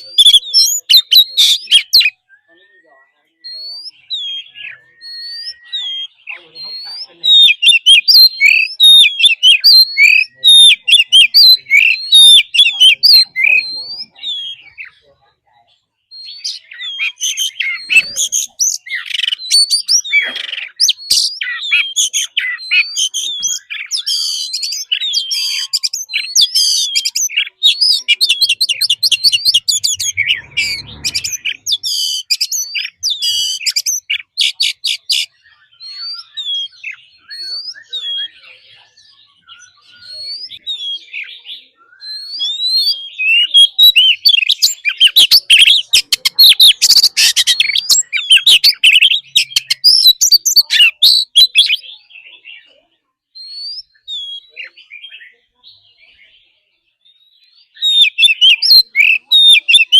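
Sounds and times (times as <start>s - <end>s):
bird singing whistles and trills: 0.0s - 15.1s, 16.0s - 59.9s.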